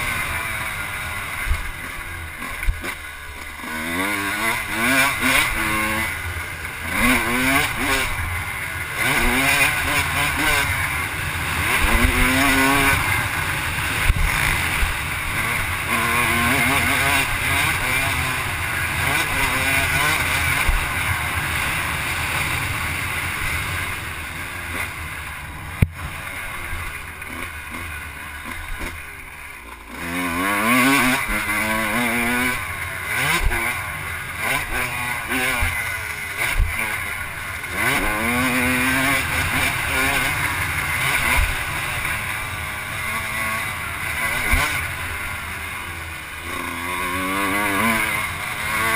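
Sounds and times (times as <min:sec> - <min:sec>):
off-road engine revving: 0:00.0 - 0:48.9.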